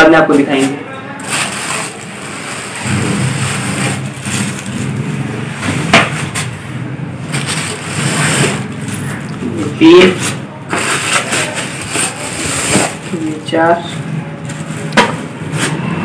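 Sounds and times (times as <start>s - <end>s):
cardboard and plastic rustling: 0.4s - 6.6s, 7.2s - 15.9s
steady low hum: 0.8s - 16.0s.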